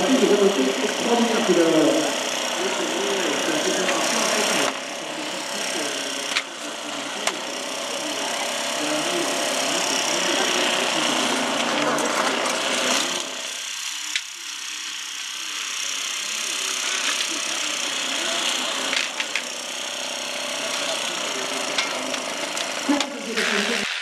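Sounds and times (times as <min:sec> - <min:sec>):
motorcycle engines revving: 0:00.0 - 0:14.1, 0:16.3 - 0:24.0.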